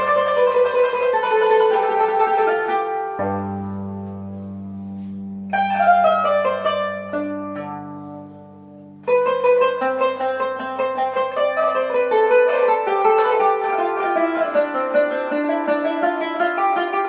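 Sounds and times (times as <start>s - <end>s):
bowed string instrument melody: 0.0s - 17.0s.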